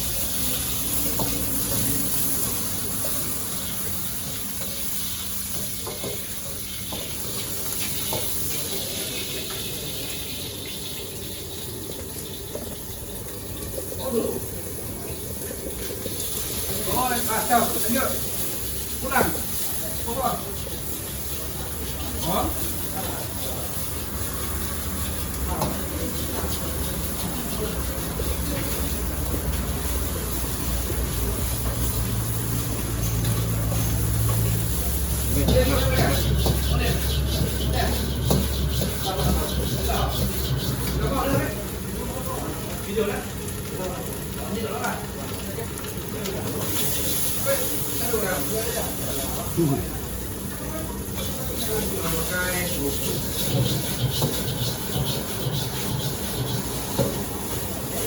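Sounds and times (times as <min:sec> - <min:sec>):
continuous hiss: 0:00.0 - 0:58.0
faint overlapping voices: 0:06.2 - 0:58.0.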